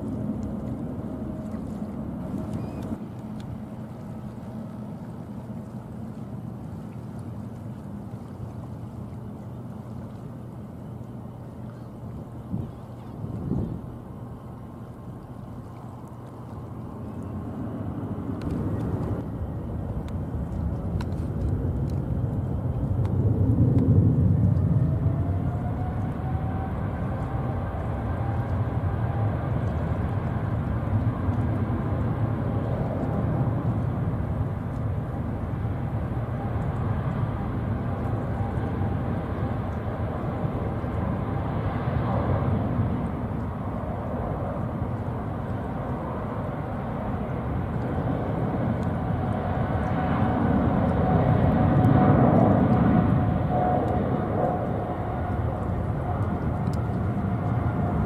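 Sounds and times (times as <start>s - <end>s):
jet engine whine: 0.0s - 58.0s
jet engines deep rumble: 0.0s - 58.0s.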